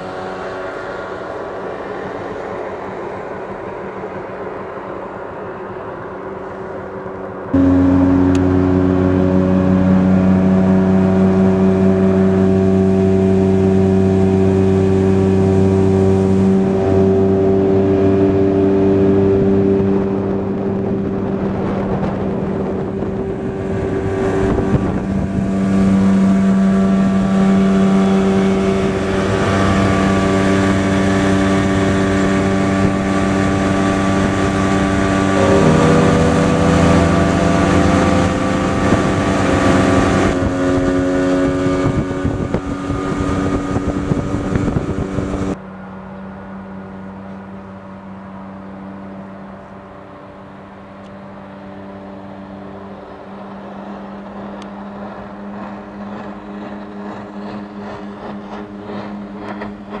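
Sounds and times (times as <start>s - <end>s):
rush of wind and water: 0.0s - 60.0s
outboard motor running: 6.5s - 60.0s.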